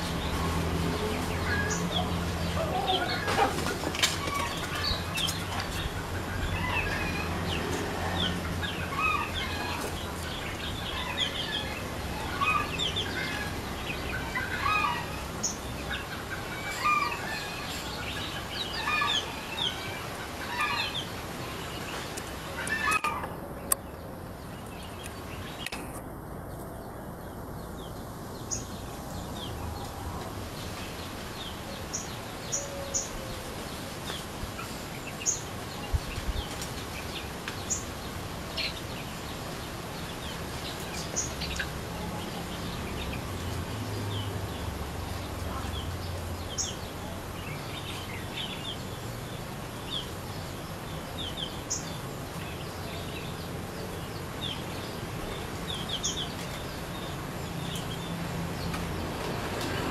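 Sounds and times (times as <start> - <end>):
small birds chirping: 0.0 - 25.8, 26.4 - 59.9.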